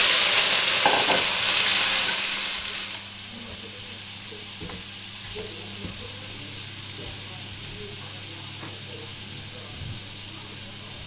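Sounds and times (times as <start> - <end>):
octopus sizzling in hot oil: 0.0 - 11.0.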